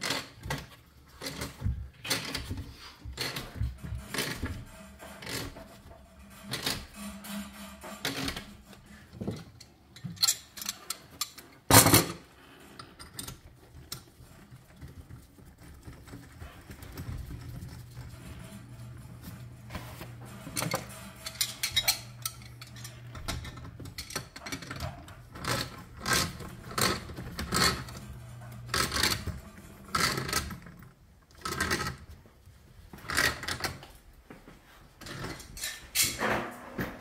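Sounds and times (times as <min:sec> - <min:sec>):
metal tools clinking and clanking: 0:00.0 - 0:32.1, 0:35.0 - 0:36.6.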